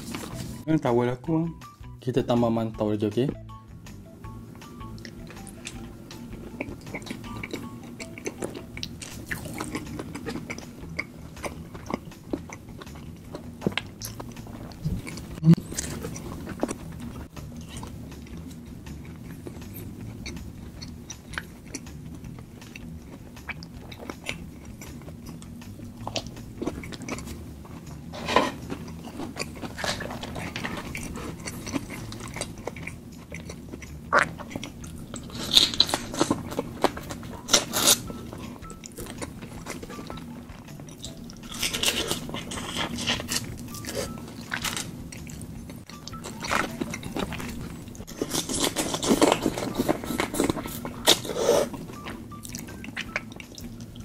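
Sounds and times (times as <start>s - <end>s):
wet chewing and lip smacking: 4.9s - 28.1s, 28.7s - 54.0s.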